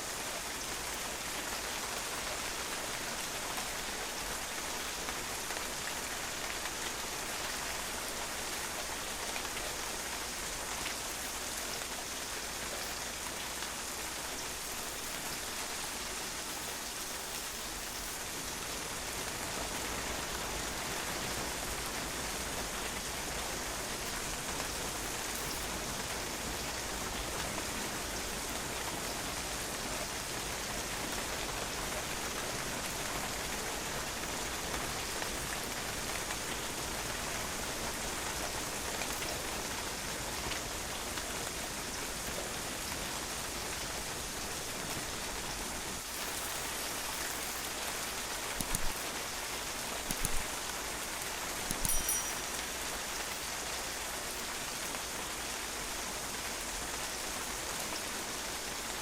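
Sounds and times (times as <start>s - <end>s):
rain splashing on a patio: 0.0s - 59.0s.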